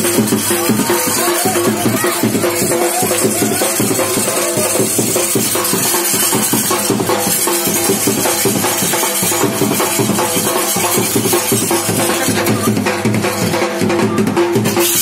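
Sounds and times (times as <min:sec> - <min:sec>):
driving drum beat: 0:00.0 - 0:15.0.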